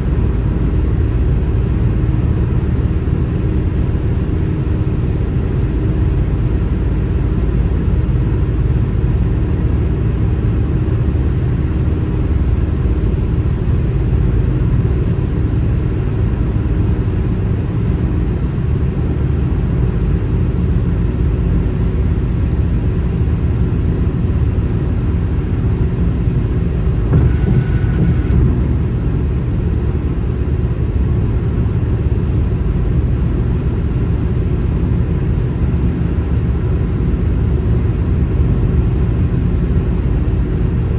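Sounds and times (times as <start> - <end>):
car road and tyre noise: 0.0 - 40.9.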